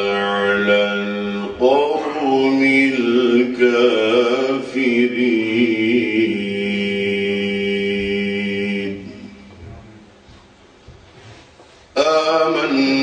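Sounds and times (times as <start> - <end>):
man chanting melodically: 0.0 - 10.1, 12.0 - 13.0.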